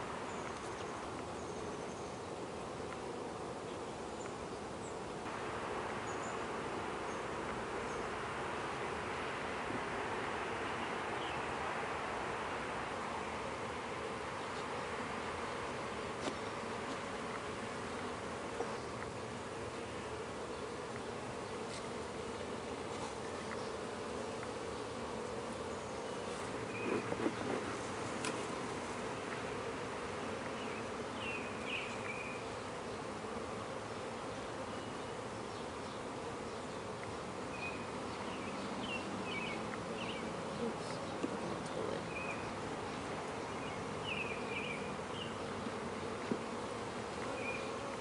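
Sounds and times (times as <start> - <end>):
bees humming: 0.0 - 48.0.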